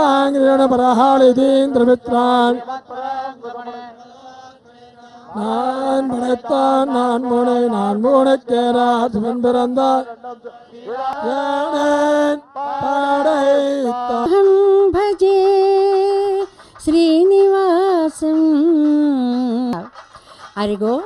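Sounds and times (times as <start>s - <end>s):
men chanting into microphones: 0.0s - 18.9s.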